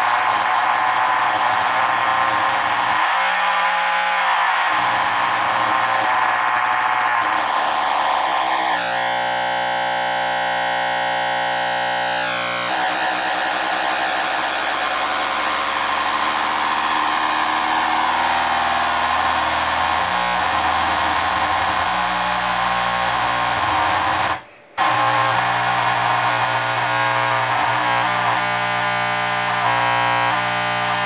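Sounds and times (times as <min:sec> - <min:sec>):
amplifier howling: 0:00.0 - 0:31.0
steady buzzing tone: 0:00.0 - 0:31.0.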